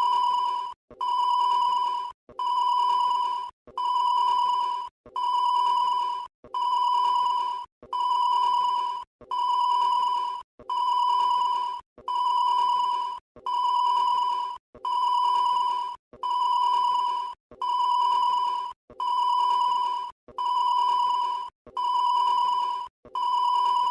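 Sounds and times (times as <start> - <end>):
electronic ringing tone: 0.0 - 23.9.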